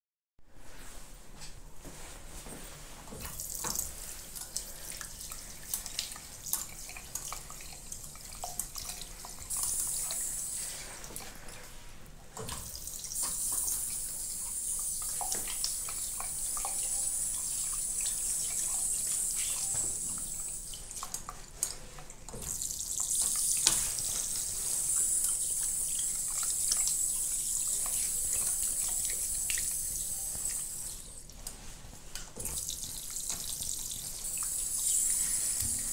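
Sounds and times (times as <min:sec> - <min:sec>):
tap water running into basin: 0:03.1 - 0:11.6, 0:12.4 - 0:35.9.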